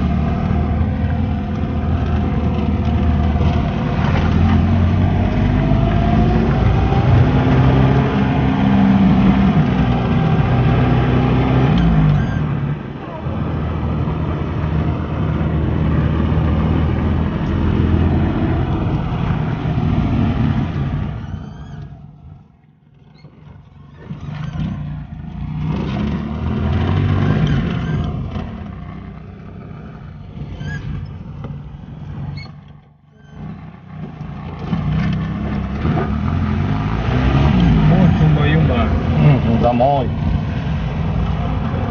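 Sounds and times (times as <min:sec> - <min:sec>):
motor vehicle engine: 0:00.0 - 0:41.9
road noise: 0:00.0 - 0:41.9.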